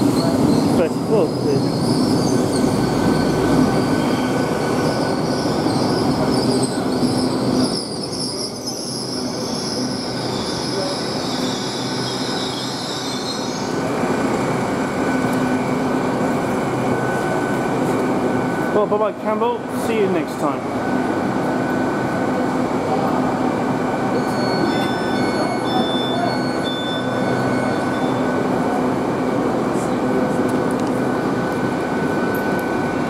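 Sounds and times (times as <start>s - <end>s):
train diesel engine running: 0.0s - 33.0s.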